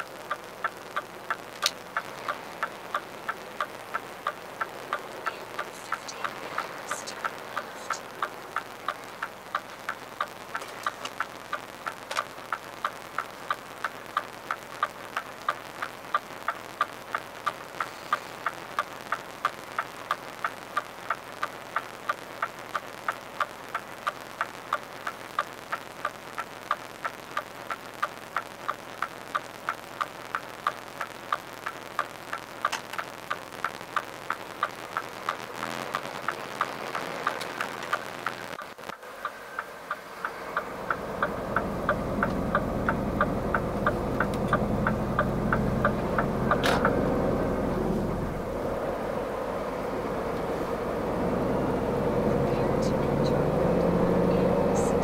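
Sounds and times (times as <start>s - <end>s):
turn signal ticking: 0.0s - 55.0s.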